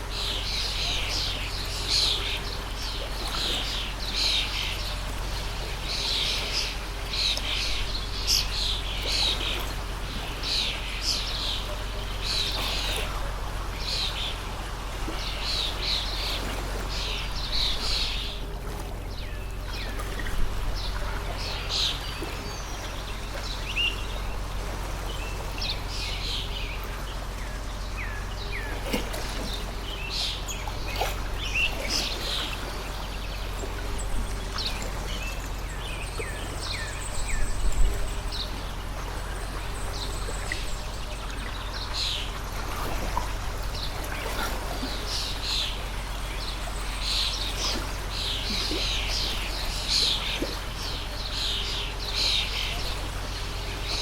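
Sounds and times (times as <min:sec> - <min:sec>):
birds chirping: 0:00.0 - 0:54.0
stream flowing: 0:00.0 - 0:54.0.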